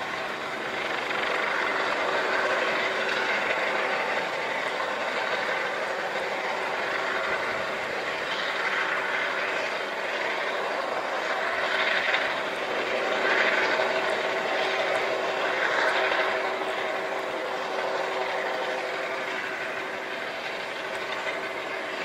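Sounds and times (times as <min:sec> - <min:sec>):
helicopter turbine and rotor whine: 0:00.0 - 0:22.0.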